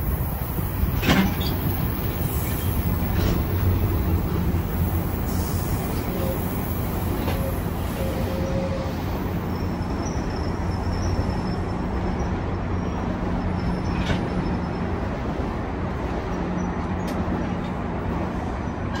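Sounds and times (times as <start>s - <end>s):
locomotive engine rumble: 0.0s - 19.0s.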